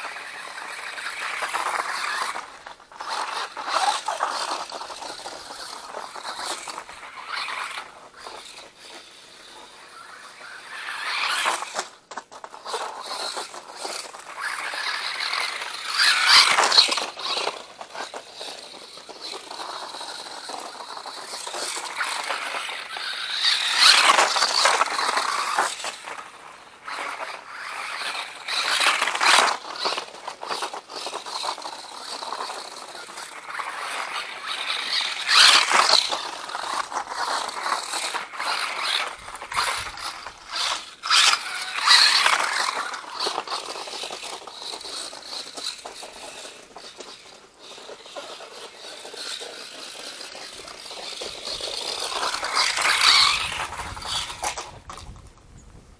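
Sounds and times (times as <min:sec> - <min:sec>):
tyres scraping snow: 0:00.0 - 0:55.4
toy truck motor whining: 0:00.0 - 0:55.5.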